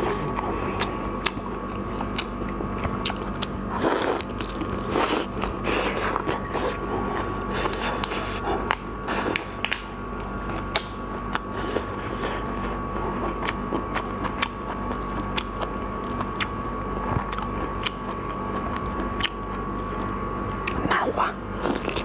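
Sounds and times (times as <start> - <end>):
background hum: 0.0 - 22.0.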